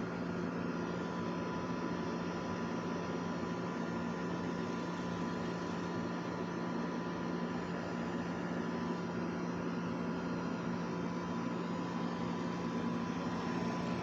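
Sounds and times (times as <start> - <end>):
mechanical hum with hiss: 0.0 - 14.0.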